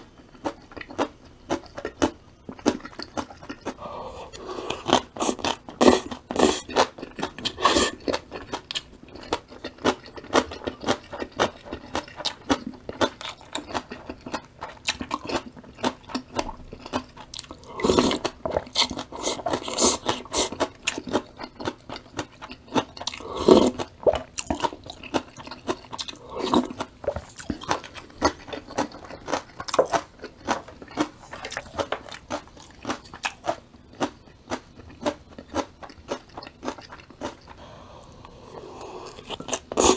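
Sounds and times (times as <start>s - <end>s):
chewing crisp vegetables: 0.0s - 39.9s.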